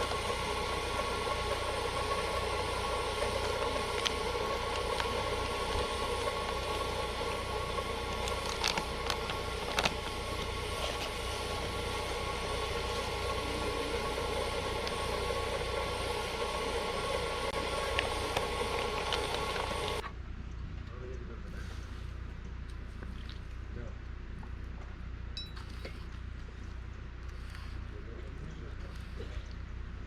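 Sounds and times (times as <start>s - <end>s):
vehicle running rumble: 0.0s - 25.3s.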